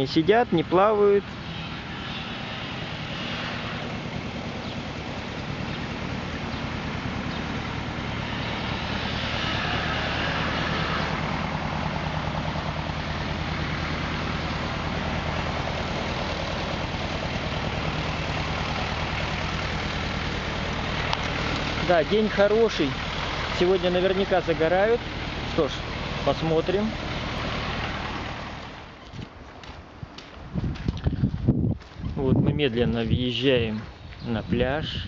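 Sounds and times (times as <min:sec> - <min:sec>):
road traffic engine hum: 0:00.0 - 0:35.0
rushing background noise: 0:00.0 - 0:35.0.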